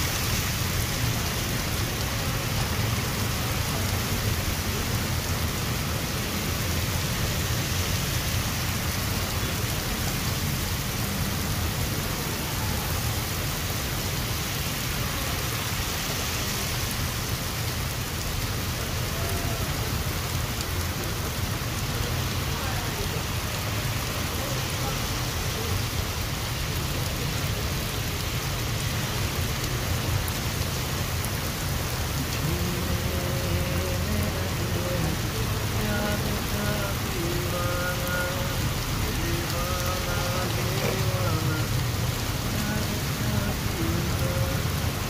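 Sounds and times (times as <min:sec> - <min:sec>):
heavy rain pouring on street: 0:00.0 - 0:45.0.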